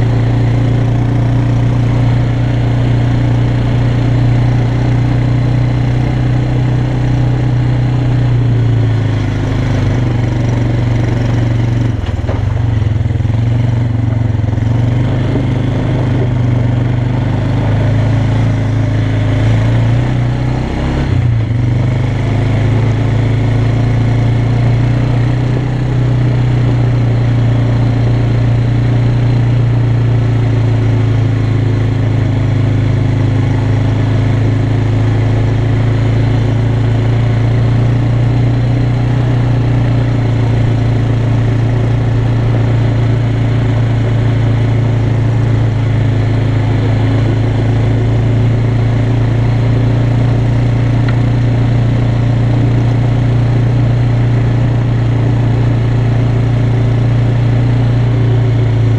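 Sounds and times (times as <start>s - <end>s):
quad bike engine running: 0.0s - 58.9s.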